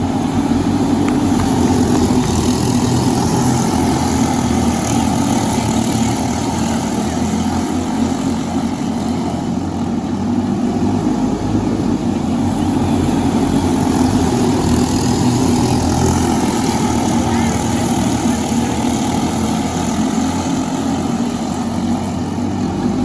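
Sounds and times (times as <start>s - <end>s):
kart engine droning: 0.0s - 23.0s.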